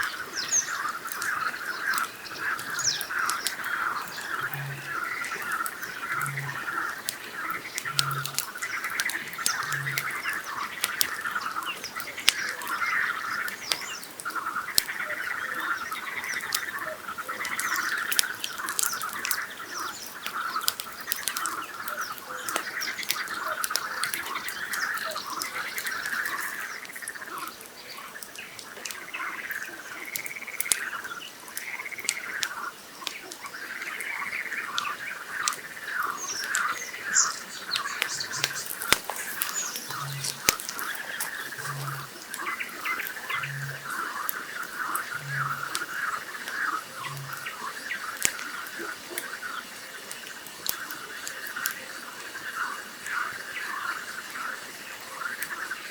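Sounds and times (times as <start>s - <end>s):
campfire crackling and popping: 0.0s - 55.9s
frogs calling: 0.0s - 55.9s.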